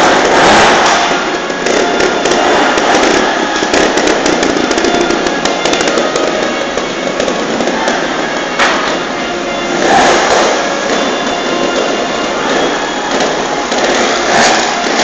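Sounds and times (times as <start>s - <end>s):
engine pops and crackles: 0.0s - 9.2s, 9.8s - 15.0s
motorcycle engine revving: 0.0s - 15.0s.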